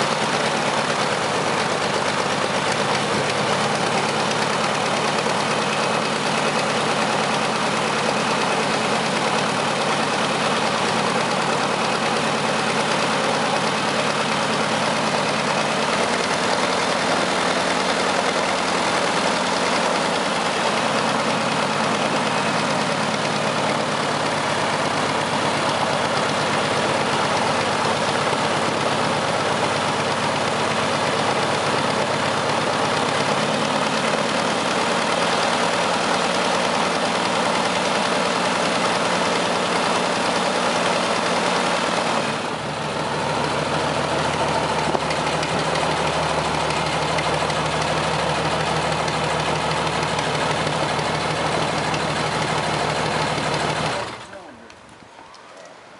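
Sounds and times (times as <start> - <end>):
aircraft engine running: 0.0 - 54.9.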